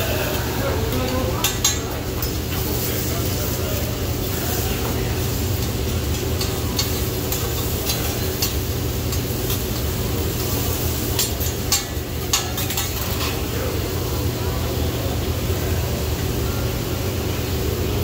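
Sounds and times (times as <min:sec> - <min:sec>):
food sizzling: 0:00.0 - 0:18.0.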